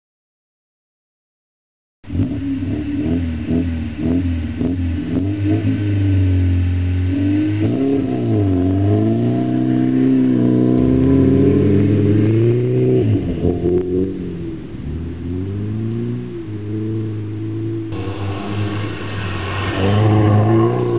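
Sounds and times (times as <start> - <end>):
car engine revving: 2.0 - 20.9.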